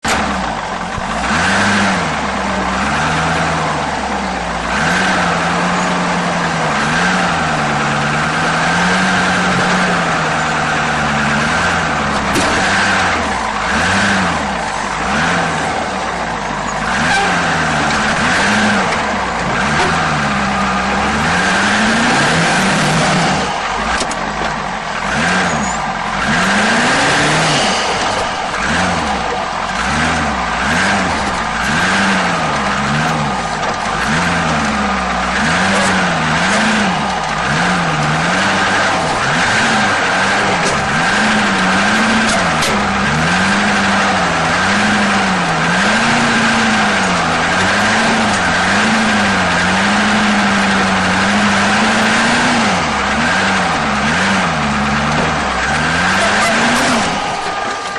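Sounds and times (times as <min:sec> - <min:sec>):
truck engine revving: 0:00.0 - 0:57.9.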